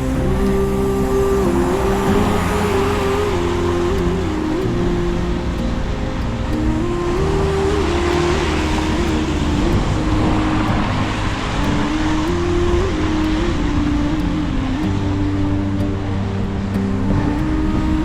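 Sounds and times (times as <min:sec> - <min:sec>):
motor vehicles running: 0:00.0 - 0:18.0.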